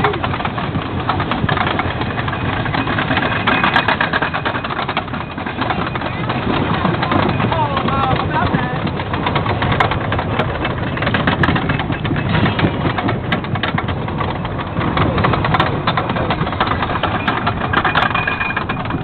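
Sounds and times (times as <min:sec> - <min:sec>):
rapid knocks of wheels: 0:00.0 - 0:19.0
roller coaster rumbling on wooden track: 0:00.0 - 0:19.0.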